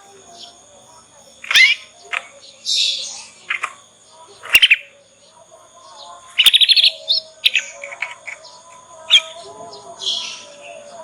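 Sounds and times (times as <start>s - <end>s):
canary chattering trill: 0.0s - 11.0s
canary chirps: 0.0s - 11.0s.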